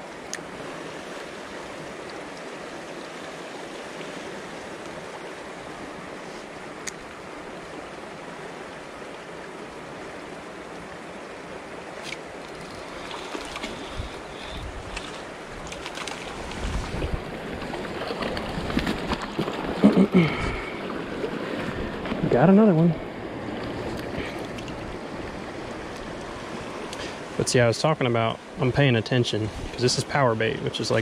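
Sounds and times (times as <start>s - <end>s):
creek water rushing: 0.0s - 31.0s.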